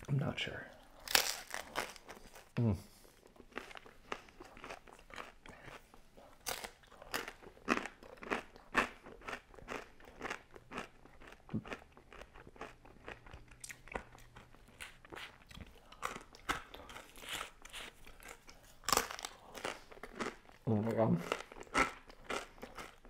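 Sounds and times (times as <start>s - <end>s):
chewing crispy pizza: 0.8s - 23.0s.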